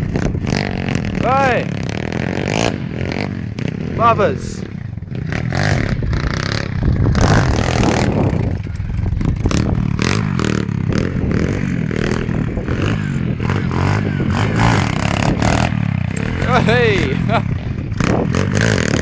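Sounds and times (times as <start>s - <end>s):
pit bike engine revving: 0.0s - 19.0s.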